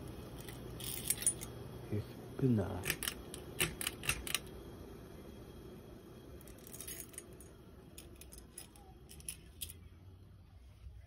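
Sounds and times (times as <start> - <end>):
ceiling fan humming: 0.0 - 11.0.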